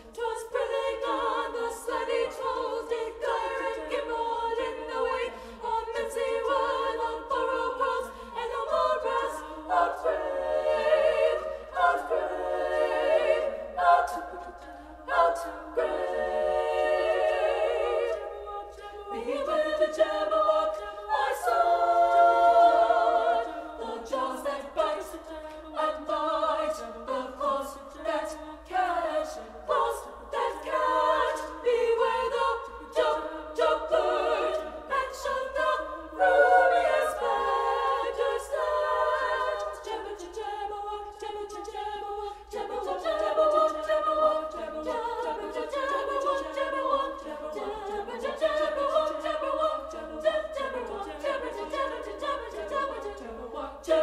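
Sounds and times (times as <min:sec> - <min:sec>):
girls' choir singing a cappella: 0:00.0 - 0:54.0.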